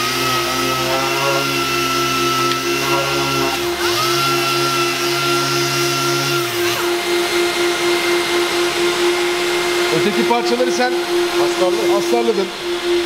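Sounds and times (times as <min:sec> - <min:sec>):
orbital sander running: 0:00.0 - 0:13.0
steady machine hum: 0:00.0 - 0:13.0.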